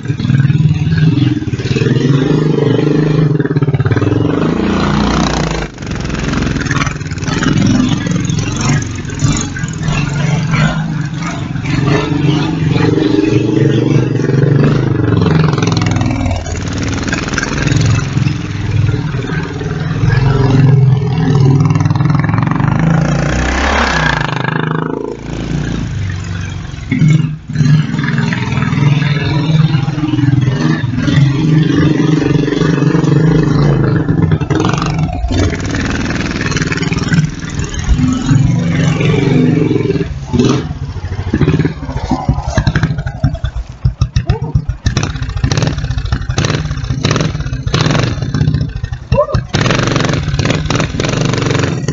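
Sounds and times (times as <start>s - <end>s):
quad bike engine revving: 0.0s - 51.9s.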